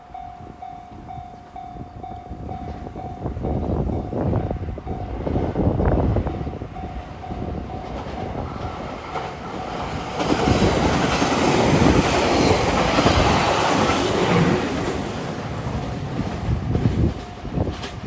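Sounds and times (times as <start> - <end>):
train passing: 0.0 - 18.0.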